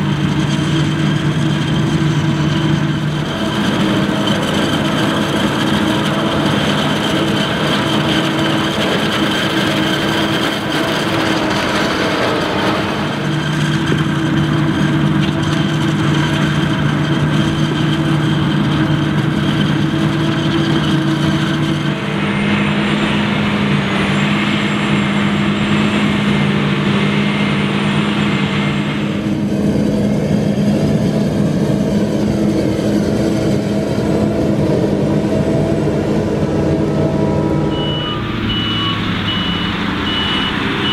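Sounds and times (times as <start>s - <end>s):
forage harvester machine hum: 0.0s - 40.9s.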